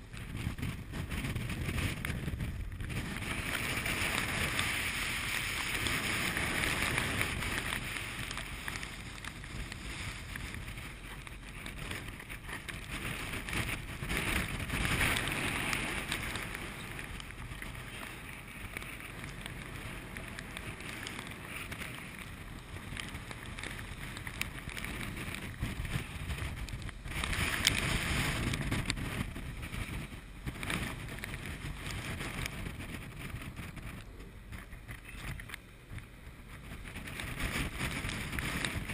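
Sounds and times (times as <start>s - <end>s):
wind buffeting microphone: 0.0s - 38.9s
waves breaking against steel bow: 0.3s - 33.8s.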